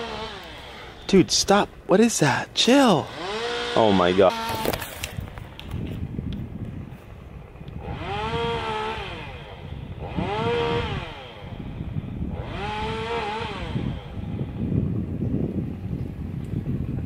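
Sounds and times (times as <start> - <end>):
small engine revving: 0.0 - 1.5, 2.6 - 15.0.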